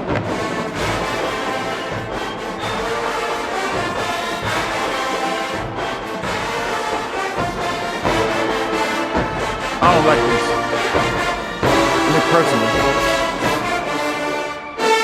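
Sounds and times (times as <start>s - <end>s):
marching band brass: 0.0s - 15.0s.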